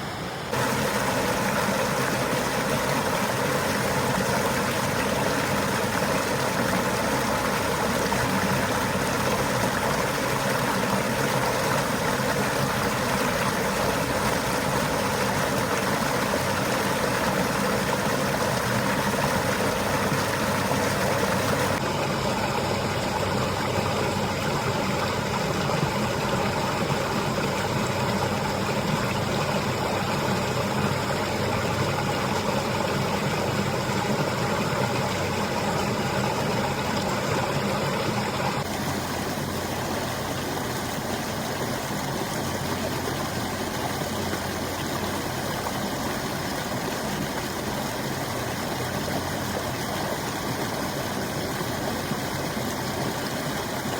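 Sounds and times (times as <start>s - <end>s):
waterfall roaring: 0.0s - 53.9s.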